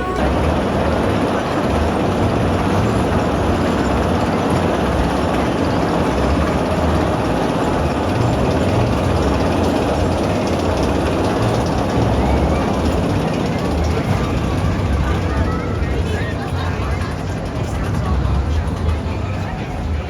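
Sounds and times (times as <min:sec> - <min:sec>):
roller coaster rumbling on track: 0:00.0 - 0:20.0.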